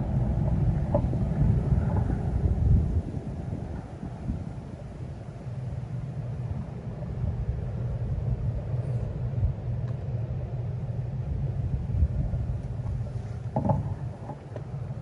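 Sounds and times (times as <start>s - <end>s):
distant diesel locomotive engines: 0.0s - 15.0s.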